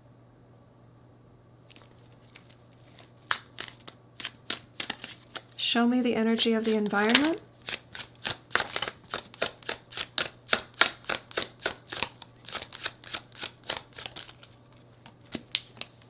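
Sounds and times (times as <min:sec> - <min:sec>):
cards being shuffled: 0:01.7 - 0:05.6, 0:06.3 - 0:16.0.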